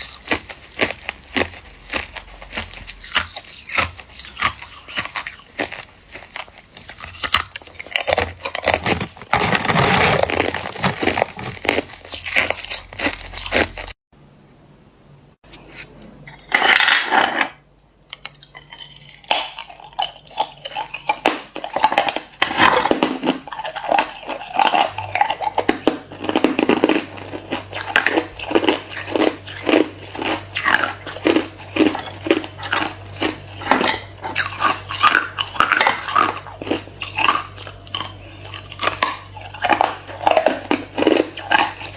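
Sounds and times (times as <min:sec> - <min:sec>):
person crunching ice: 0:00.0 - 0:14.0, 0:18.3 - 0:41.9.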